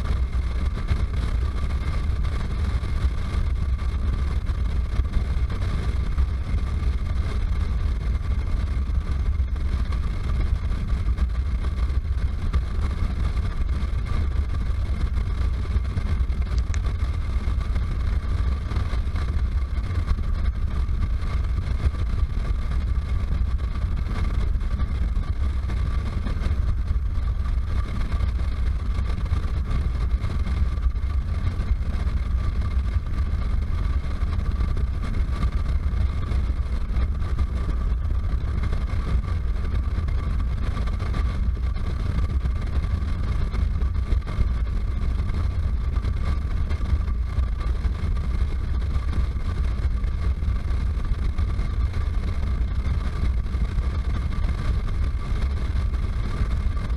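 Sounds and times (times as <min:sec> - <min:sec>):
thin steady whine: 0:00.0 - 0:56.9.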